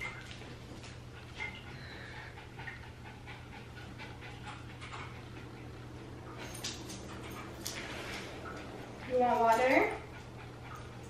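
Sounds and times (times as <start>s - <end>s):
small dog panting: 0.9s - 6.5s, 7.1s - 11.0s.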